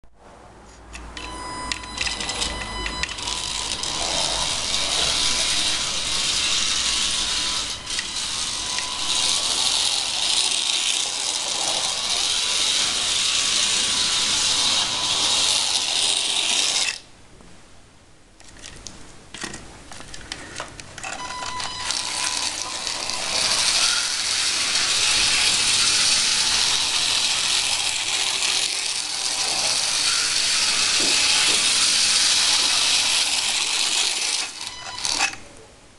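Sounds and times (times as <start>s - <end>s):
slot car motors whirring: 1.0s - 17.1s, 21.0s - 35.5s.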